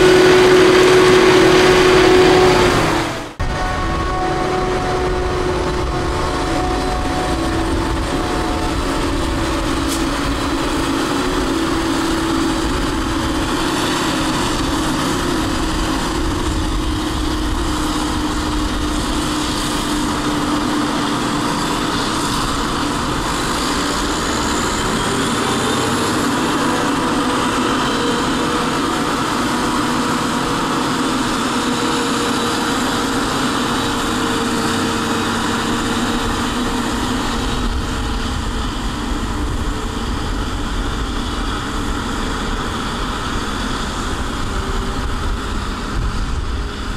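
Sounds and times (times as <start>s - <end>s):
forage harvester drone: 0.0s - 46.9s
tractor engines running: 0.0s - 46.9s.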